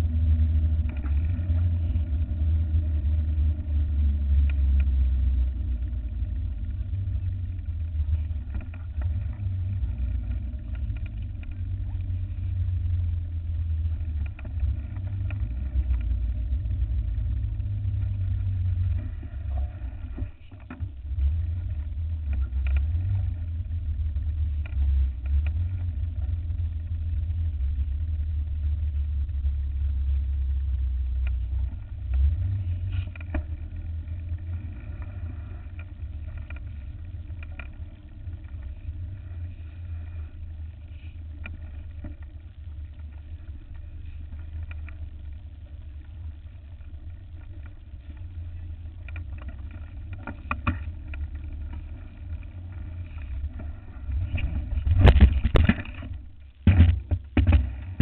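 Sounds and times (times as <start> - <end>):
bike clicks and rattles: 0.0 - 28.4, 29.0 - 58.0
tyre noise on road: 0.0 - 58.0
wind rumbling on microphone: 0.0 - 58.0.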